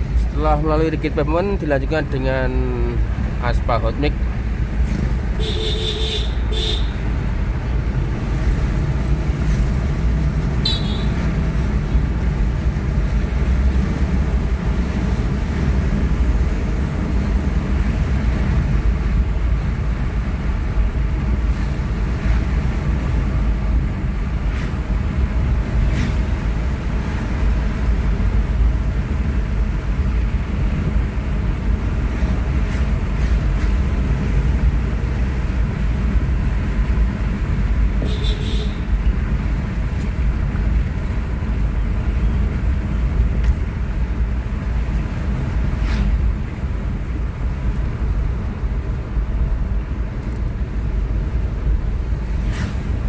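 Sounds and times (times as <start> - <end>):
tyres rumbling on asphalt: 0.0 - 53.0.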